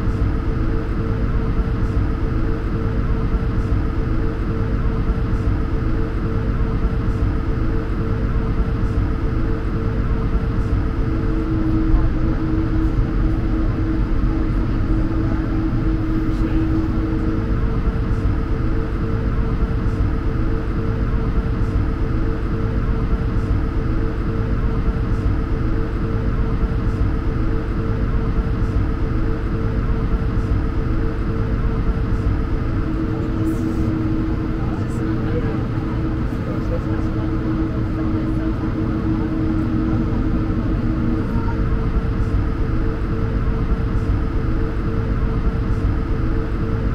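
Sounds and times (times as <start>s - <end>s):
low cabin rumble: 0.0s - 46.9s
steady engine hums: 0.0s - 46.9s.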